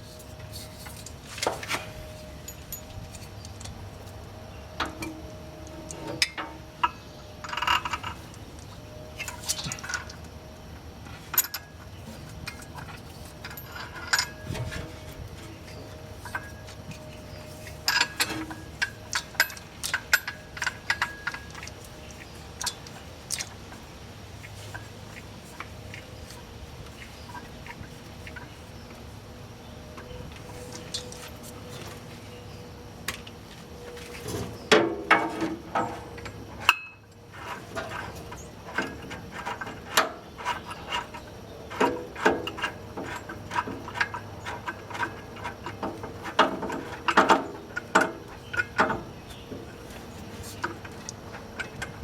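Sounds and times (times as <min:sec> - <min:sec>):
hand tools and metal parts clinking: 0:00.0 - 0:29.2, 0:29.8 - 0:52.0.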